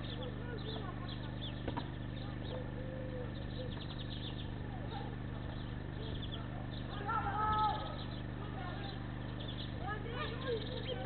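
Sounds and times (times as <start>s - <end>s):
electrical hum: 0.0s - 11.0s
small birds chirping: 0.0s - 11.0s.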